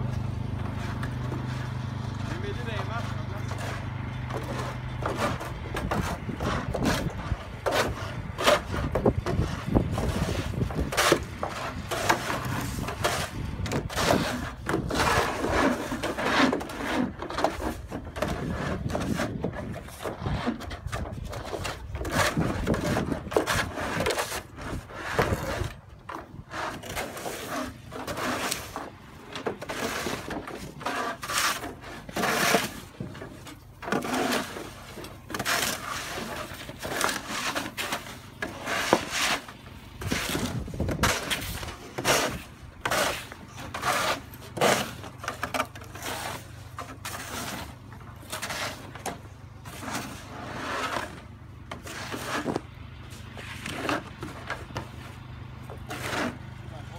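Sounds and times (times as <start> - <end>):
snow shovels scraping snow: 0.0 - 55.2, 55.8 - 56.9.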